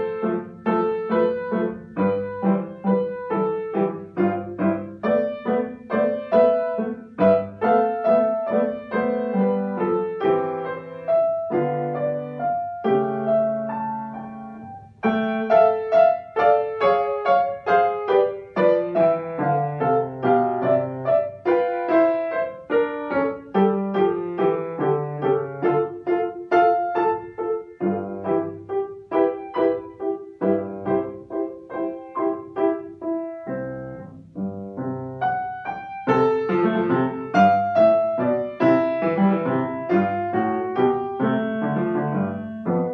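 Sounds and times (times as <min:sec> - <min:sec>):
solo classical piano piece: 0:00.0 - 0:42.9.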